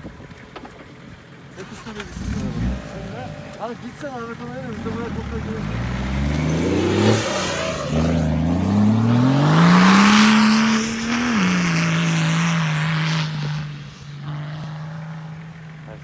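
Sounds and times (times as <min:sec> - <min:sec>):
diesel truck engine revving: 0:01.4 - 0:16.0.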